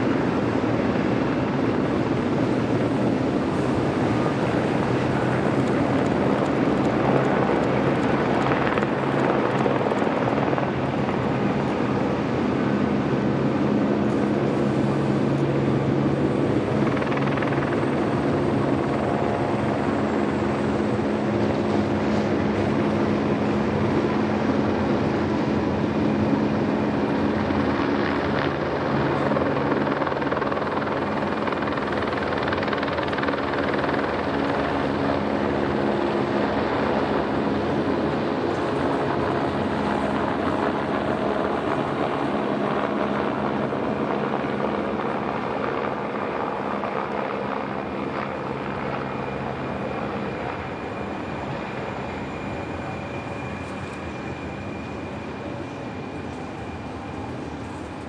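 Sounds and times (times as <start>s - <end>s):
large vehicle mechanical drone: 0.0s - 45.8s, 46.6s - 58.0s.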